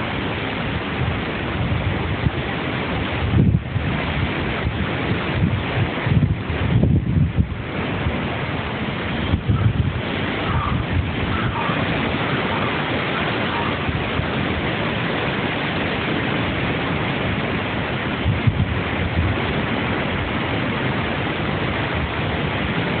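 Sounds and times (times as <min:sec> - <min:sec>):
strong wind rushing: 0:00.0 - 0:23.0
wind buffeting microphone: 0:00.0 - 0:23.0.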